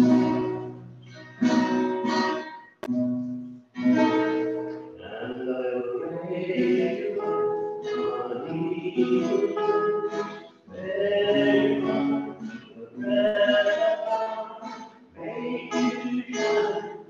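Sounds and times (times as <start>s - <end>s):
classical guitar playing: 0.0s - 17.0s.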